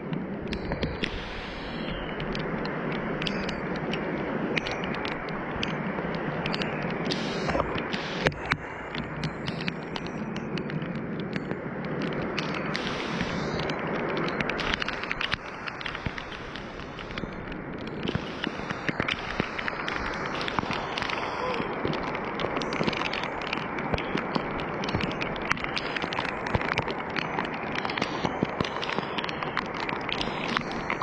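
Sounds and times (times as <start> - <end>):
wind and rain rushing: 0.0 - 31.0.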